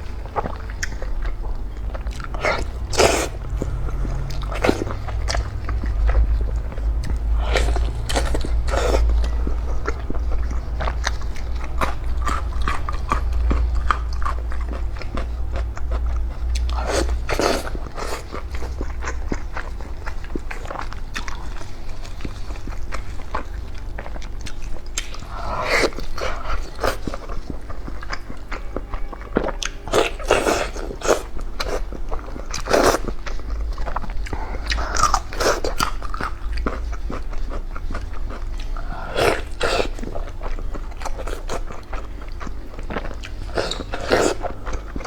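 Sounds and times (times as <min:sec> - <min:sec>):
person chewing food: 0:00.0 - 0:45.0
steady low hum: 0:00.0 - 0:45.0.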